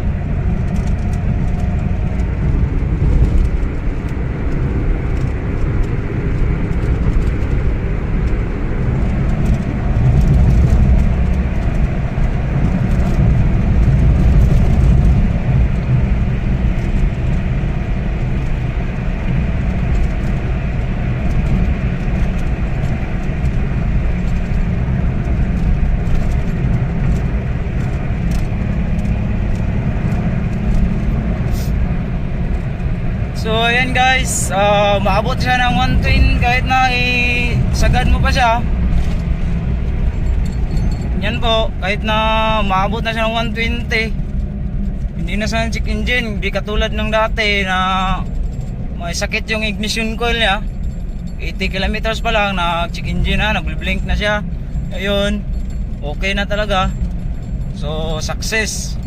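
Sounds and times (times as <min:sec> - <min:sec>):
car engine rumbling: 0:00.0 - 0:59.0
road noise: 0:00.0 - 0:59.0.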